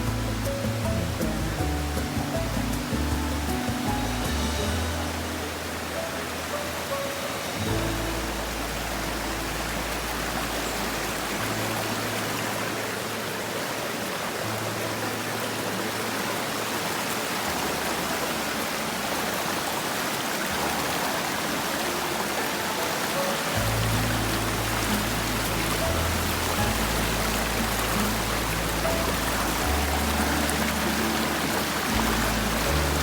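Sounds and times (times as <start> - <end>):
fast-flowing stream rushing: 0.0 - 33.0
soft background music: 0.0 - 33.0.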